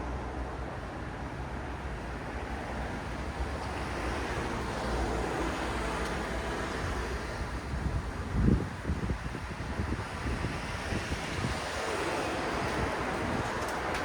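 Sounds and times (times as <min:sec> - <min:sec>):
road traffic engines and tyres: 0:00.0 - 0:14.0.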